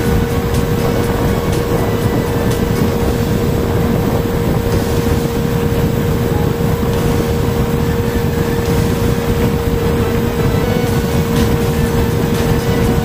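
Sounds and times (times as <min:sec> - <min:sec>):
outboard motor whining: 0:00.0 - 0:13.0
water rushing: 0:00.0 - 0:13.0
wind rushing: 0:00.0 - 0:13.0.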